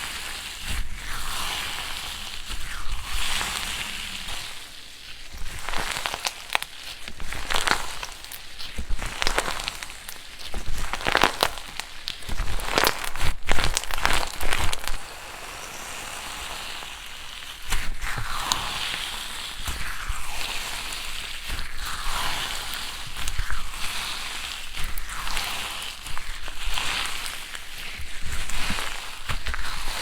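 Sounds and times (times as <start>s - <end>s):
slime squishing and rustling: 0.0s - 30.0s
slime crackling and popping: 0.6s - 15.0s, 17.3s - 30.0s.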